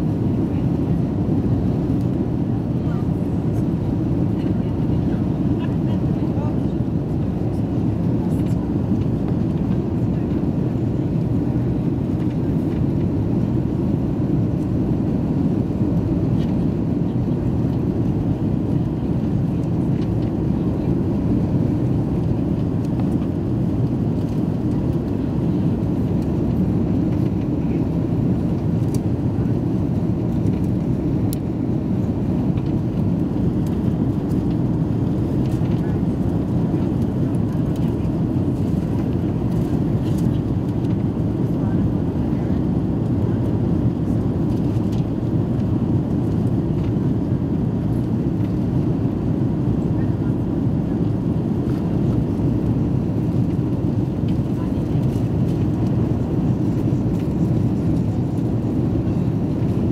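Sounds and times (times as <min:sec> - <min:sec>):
airplane cabin engine noise: 0:00.0 - 0:59.9.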